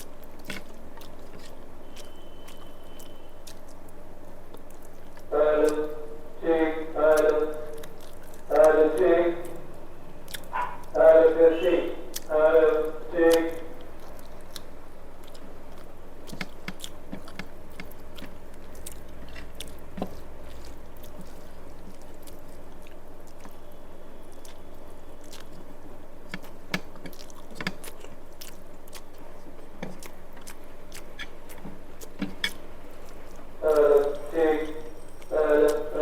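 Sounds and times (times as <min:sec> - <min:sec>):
wet mouth clicks and smacking: 0:00.0 - 0:05.8, 0:07.1 - 0:11.0, 0:13.2 - 0:35.8
person chewing food: 0:00.0 - 0:06.4, 0:07.1 - 0:11.0, 0:12.0 - 0:36.0
steady low hum: 0:00.0 - 0:36.0.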